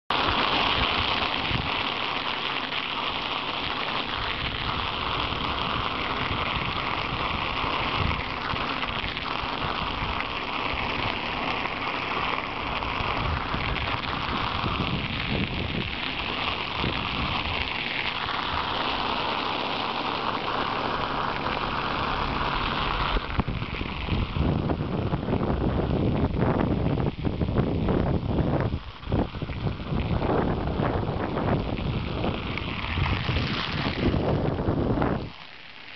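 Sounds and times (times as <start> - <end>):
bicycle tyres crackling on ice: 0.1 - 35.9
wind on microphone: 0.1 - 35.9.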